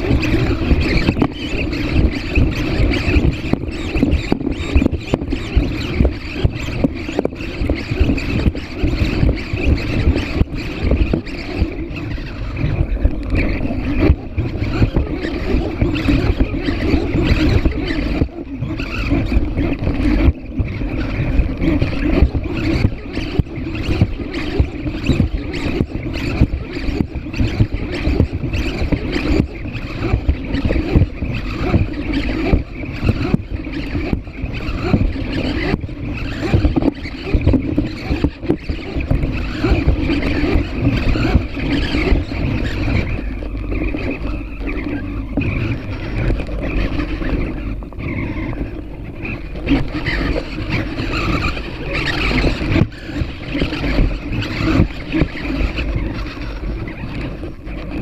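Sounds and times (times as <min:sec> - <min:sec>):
robot servos buzzing: 0:00.0 - 0:57.6
robot feet clicking and scraping: 0:00.0 - 0:58.0.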